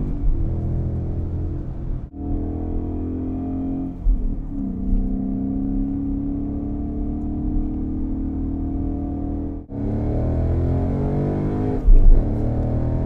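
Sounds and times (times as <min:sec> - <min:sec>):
car engine driving: 0:00.0 - 0:13.0.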